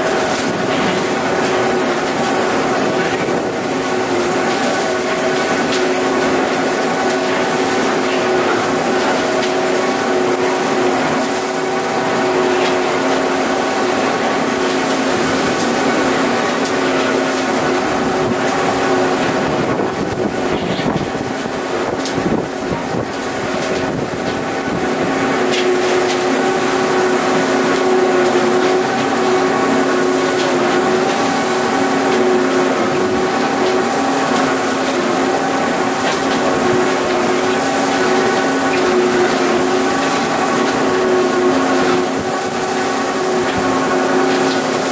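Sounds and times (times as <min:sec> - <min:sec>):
tractor engine driving feed mixer: 0:00.0 - 0:44.9.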